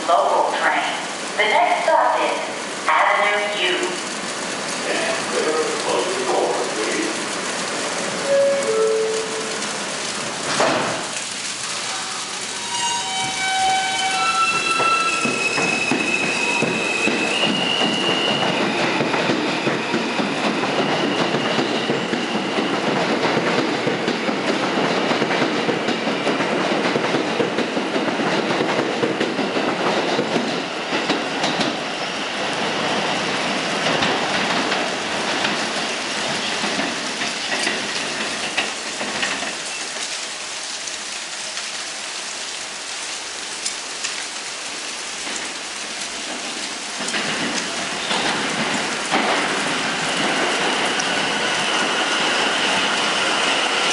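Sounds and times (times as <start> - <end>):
steady rain: 0.0 - 53.9
subway train wheels on rails: 0.0 - 53.9.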